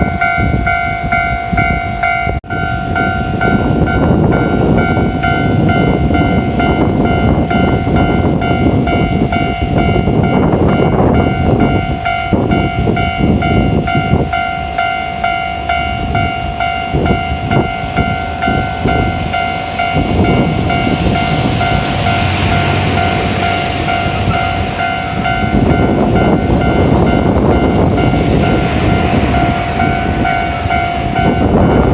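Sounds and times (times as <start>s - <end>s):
level crossing warning bell: 0.0s - 31.9s
heavy trucks rumbling past: 2.5s - 31.9s.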